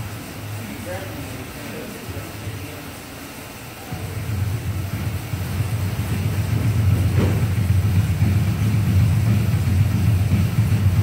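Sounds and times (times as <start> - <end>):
air bike fan whooshing: 0.0 - 11.0.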